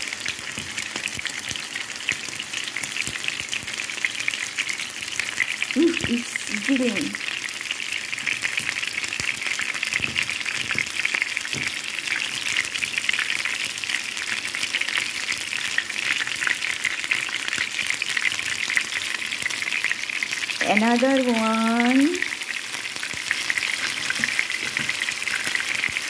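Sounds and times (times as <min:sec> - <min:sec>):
oil sizzling in a frying pan: 0:00.0 - 0:26.0.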